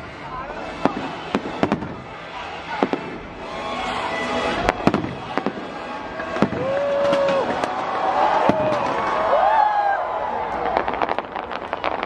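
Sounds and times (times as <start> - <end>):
fireworks bangs: 0.7 - 3.4, 4.3 - 12.0.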